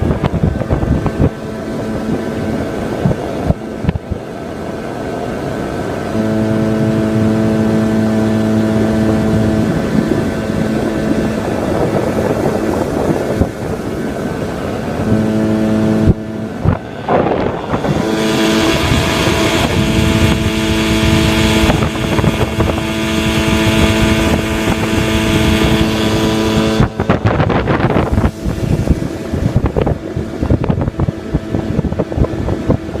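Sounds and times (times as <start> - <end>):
outboard motor running: 0.0 - 33.0
wind and water rushing: 0.0 - 33.0
wind buffeting: 0.0 - 33.0.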